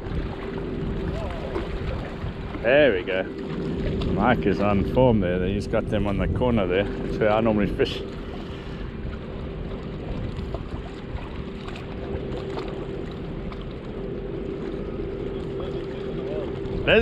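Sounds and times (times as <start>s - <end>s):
faint steady hum: 0.0s - 17.0s
water lapping against rocks: 0.0s - 17.0s
wind rumbling on microphone: 0.0s - 17.0s.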